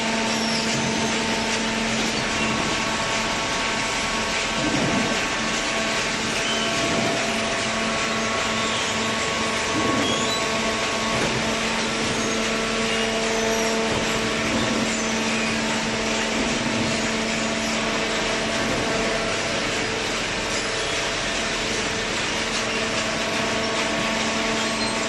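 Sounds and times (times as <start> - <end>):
baler machine hum: 0.0 - 25.0.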